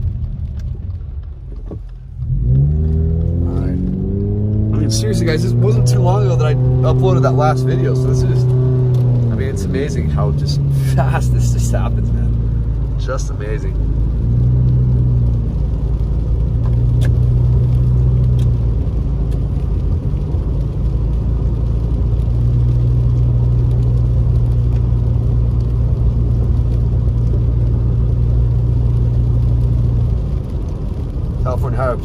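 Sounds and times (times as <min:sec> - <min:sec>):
car engine and road rumble: 0:00.0 - 0:32.0
tyre noise on wet road: 0:00.0 - 0:32.0.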